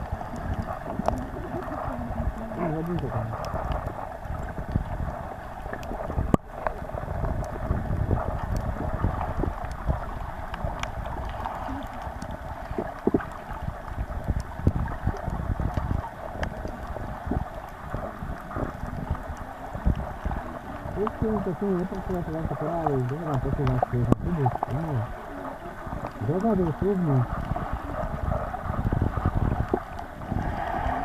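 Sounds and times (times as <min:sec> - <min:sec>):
muffled underwater hiss: 0:00.0 - 0:31.0.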